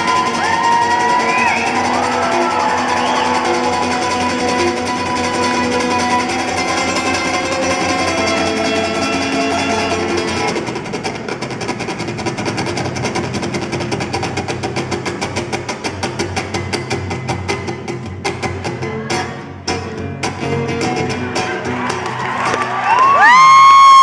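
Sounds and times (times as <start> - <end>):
live guitar-led instrumental music: 0.0 - 24.0.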